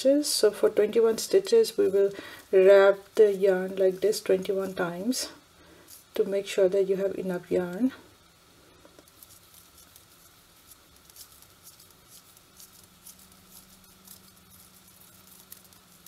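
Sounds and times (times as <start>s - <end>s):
faint steady hum: 0.0s - 16.0s
yarn rustling on knitting needle: 0.0s - 16.0s.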